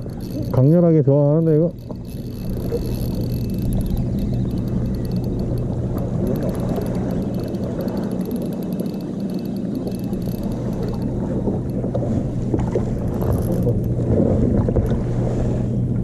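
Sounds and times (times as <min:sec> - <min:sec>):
fishing reel ticking: 0:00.0 - 0:11.8, 0:13.0 - 0:14.0
low engine hum: 0:00.0 - 0:16.0
wind: 0:00.0 - 0:16.0.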